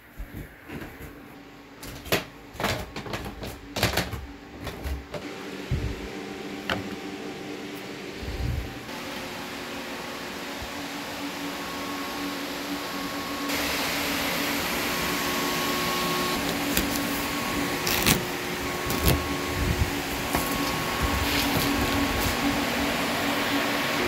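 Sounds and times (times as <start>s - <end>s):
cooling fans whirring: 0.0s - 24.0s.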